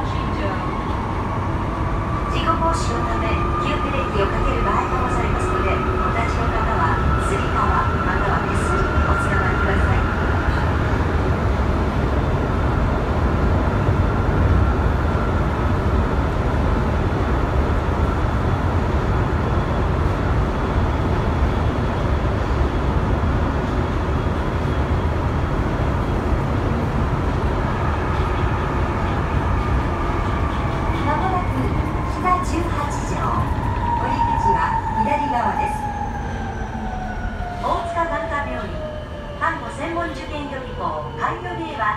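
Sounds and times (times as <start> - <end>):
subway train rumble: 0.0 - 41.9.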